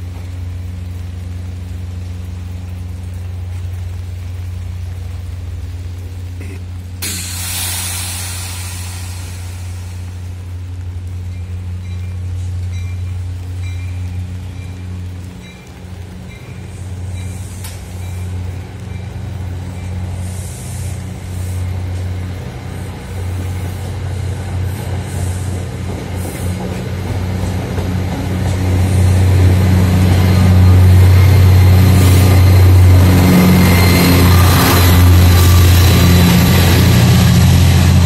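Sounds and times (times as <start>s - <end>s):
diesel locomotive engine drone: 0.0s - 38.0s
train coaches rumbling: 0.0s - 38.0s.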